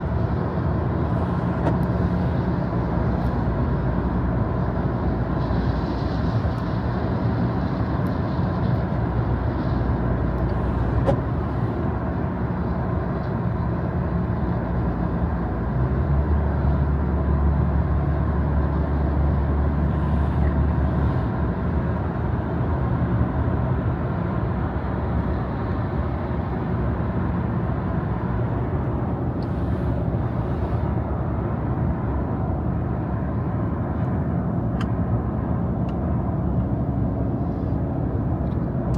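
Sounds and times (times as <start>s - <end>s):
car engine rumble: 0.0s - 38.9s
tyres on wet road: 0.0s - 38.9s.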